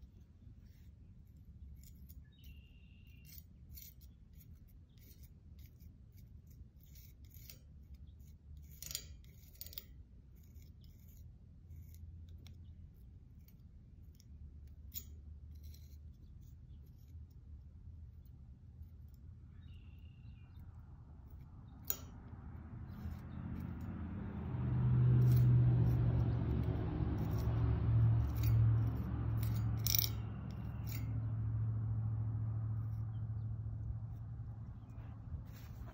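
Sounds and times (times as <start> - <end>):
palette knife scraping metal: 0.0 - 31.6, 32.6 - 35.9.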